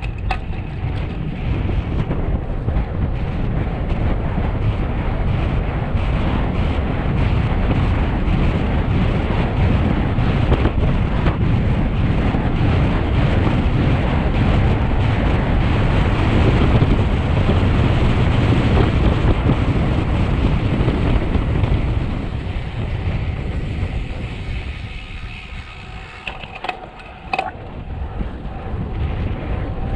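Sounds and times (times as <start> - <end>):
wind rushing over microphone: 0.0 - 29.9.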